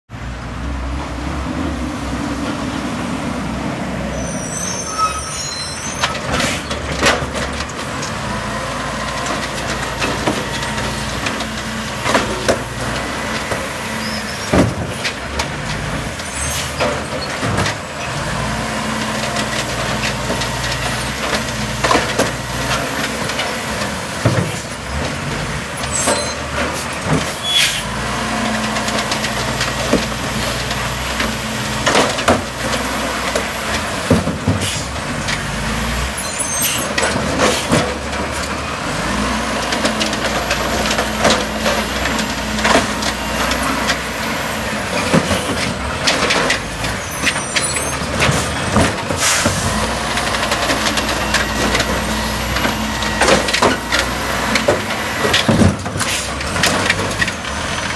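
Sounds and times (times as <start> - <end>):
garbage truck diesel engine: 0.1 - 57.9.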